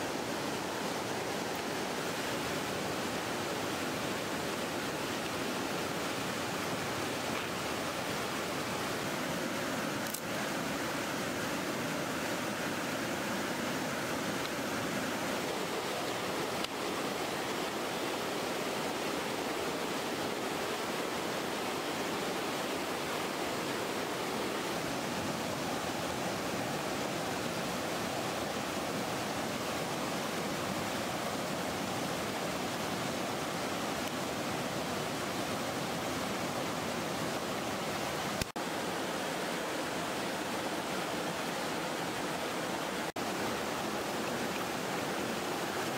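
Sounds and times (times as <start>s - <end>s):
river water rushing over rocks: 0.0s - 45.9s.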